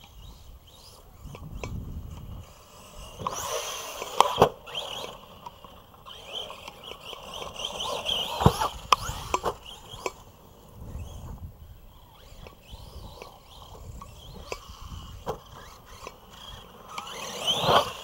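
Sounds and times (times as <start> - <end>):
rc truck motor whining: 0.0 - 18.0.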